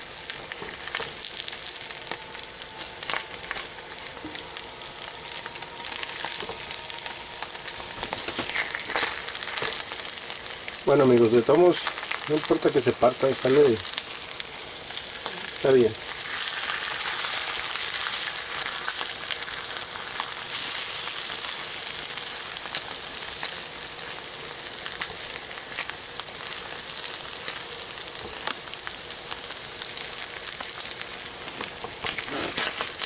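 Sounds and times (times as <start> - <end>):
food frying in hot oil: 0.0 - 33.0.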